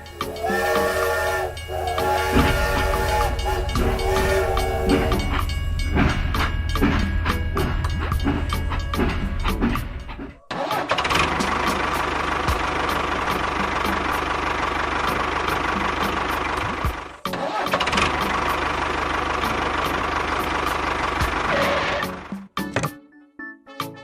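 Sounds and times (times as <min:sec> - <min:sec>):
engine running: 0:00.0 - 0:22.4.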